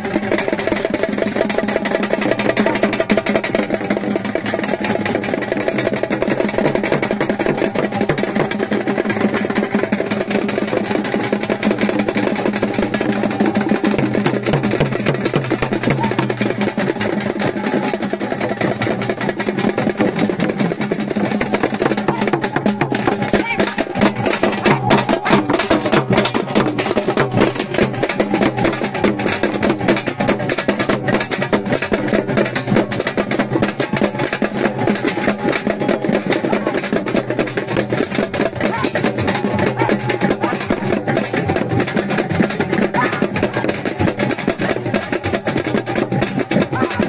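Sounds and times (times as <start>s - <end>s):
fast loud drumming: 0.0s - 47.0s.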